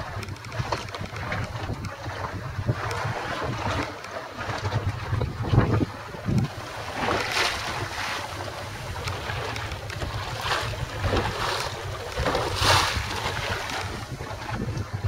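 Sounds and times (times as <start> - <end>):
waves splashing against boat: 0.0 - 15.0
wind buffeting microphone: 0.0 - 15.0.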